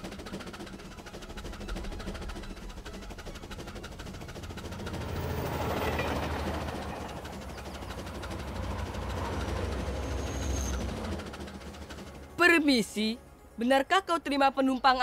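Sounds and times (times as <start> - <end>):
train rumbling along track: 0.0 - 13.4.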